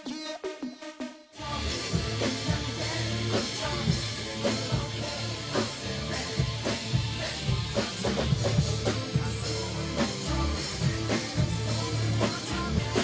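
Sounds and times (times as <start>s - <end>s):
rock music: 1.4s - 13.0s.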